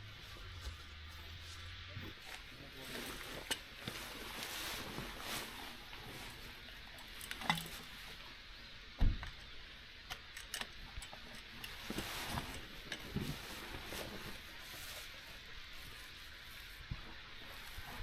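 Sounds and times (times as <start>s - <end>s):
faint steady background noise: 0.0s - 18.0s.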